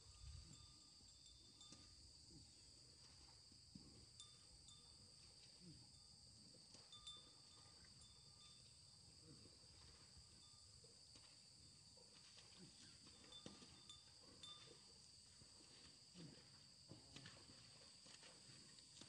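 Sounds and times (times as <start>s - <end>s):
faint insect drone: 0.0s - 19.0s.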